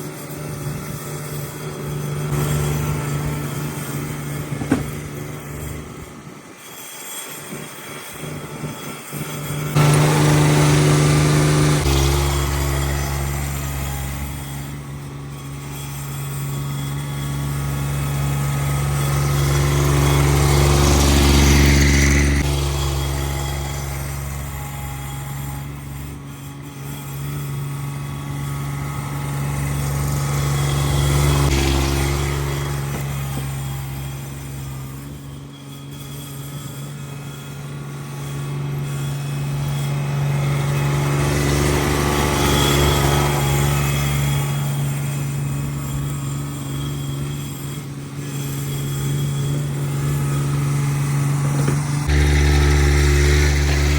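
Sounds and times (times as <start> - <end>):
garden tractor engine running: 0.0 - 53.9.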